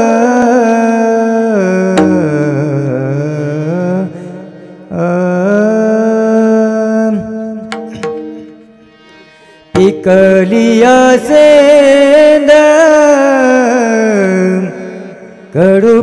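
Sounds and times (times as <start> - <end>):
man singing long notes: 0.0 - 9.1, 9.7 - 16.0.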